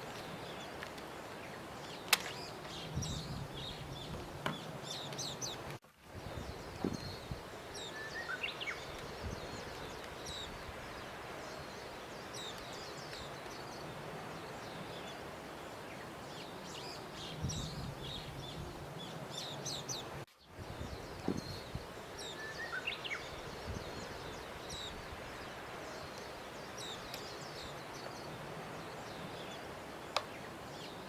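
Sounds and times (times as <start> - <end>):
steady background hiss: 0.0 - 31.0
small birds chirping: 0.1 - 31.0.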